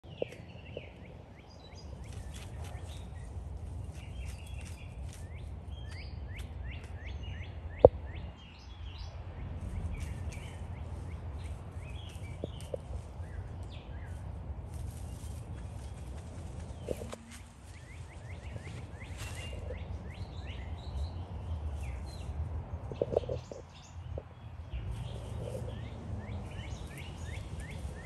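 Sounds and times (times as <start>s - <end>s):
birds chirping: 0.0s - 28.0s
low outdoor rumble: 0.0s - 28.0s.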